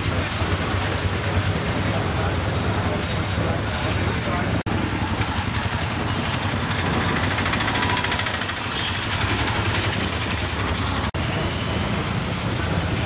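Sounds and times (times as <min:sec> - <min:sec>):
engine idling: 0:00.0 - 0:11.5
outdoor street noise: 0:00.0 - 0:13.0.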